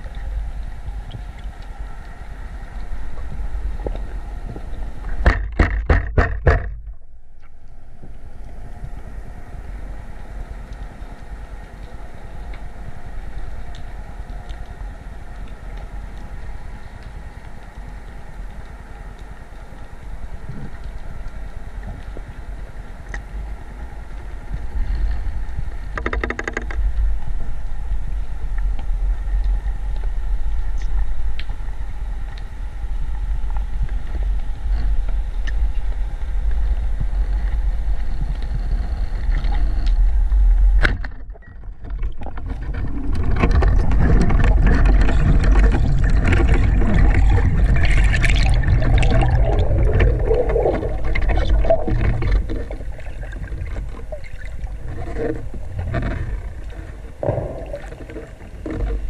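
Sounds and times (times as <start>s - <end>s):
low underwater rumble: 0.0s - 59.0s
rushing water and bubbles: 0.0s - 59.0s.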